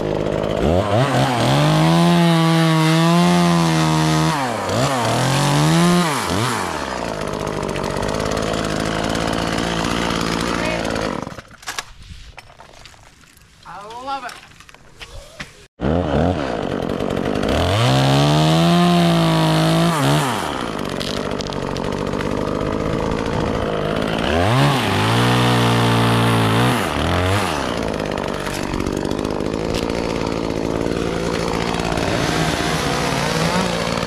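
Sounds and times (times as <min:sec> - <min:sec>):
chainsaw revving and idling: 0:00.0 - 0:11.6, 0:15.8 - 0:34.0.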